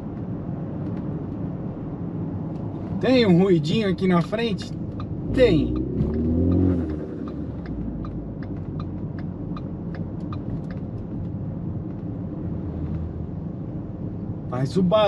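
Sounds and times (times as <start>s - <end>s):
car road and drivetrain rumble: 0.0s - 15.0s.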